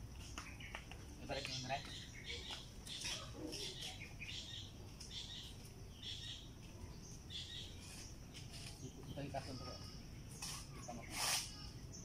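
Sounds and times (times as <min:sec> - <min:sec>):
bird chirps: 0:00.2 - 0:12.0.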